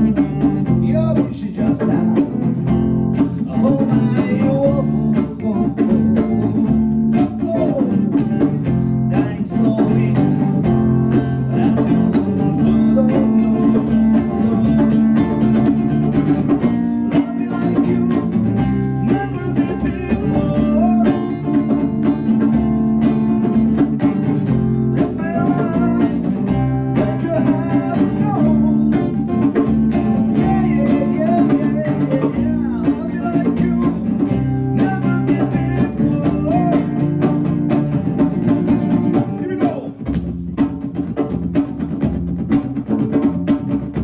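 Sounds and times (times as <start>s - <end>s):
bending bluesy melody line: 0.0s - 44.0s
drums: 0.0s - 44.0s
guitar chords: 0.0s - 44.0s.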